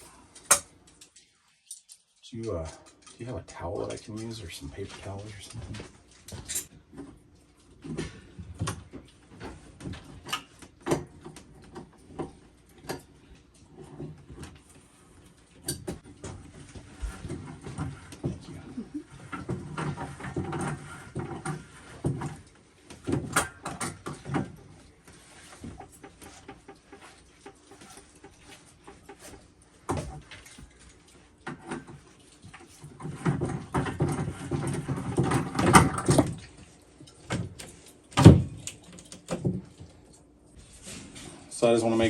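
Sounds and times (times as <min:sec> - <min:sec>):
knocks and clatter on plumbing: 0:02.6 - 0:40.1.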